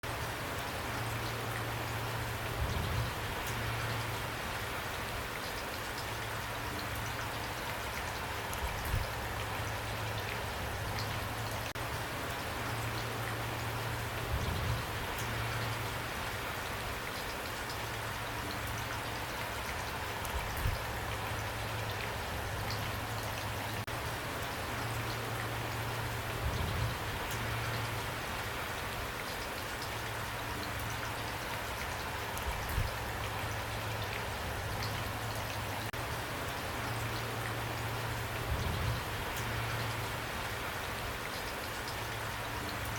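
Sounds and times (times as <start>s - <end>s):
rain pattering on a roof: 0.0s - 42.9s.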